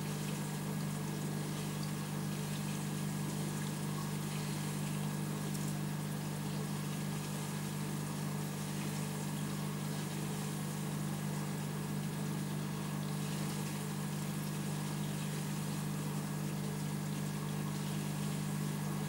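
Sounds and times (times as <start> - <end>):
aquarium pump hum: 0.0 - 19.0.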